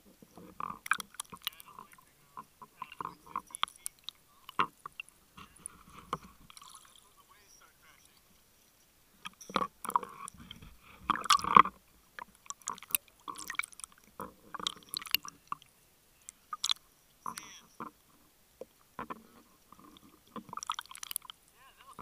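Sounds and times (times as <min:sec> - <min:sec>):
water sloshing and splashing: 0:00.0 - 0:07.2, 0:09.2 - 0:15.7, 0:16.3 - 0:22.0.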